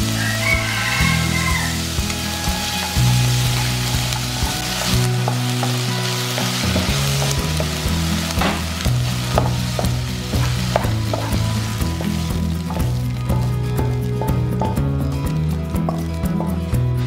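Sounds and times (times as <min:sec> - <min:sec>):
onion and meat sizzling: 0:00.0 - 0:17.0.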